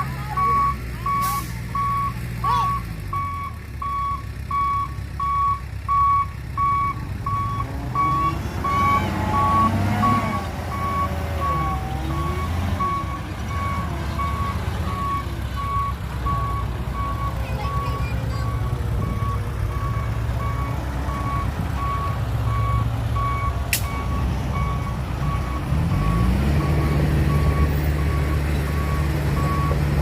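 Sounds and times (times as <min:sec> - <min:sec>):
low engine rumble: 0:00.0 - 0:30.0
reversing alarm beeping: 0:00.4 - 0:29.9.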